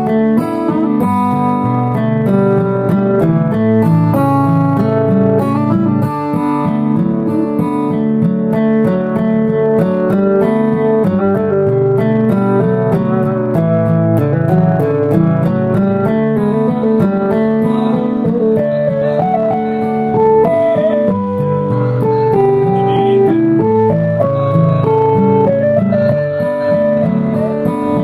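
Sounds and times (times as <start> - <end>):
plucked string instrumental music: 0.0 - 28.0.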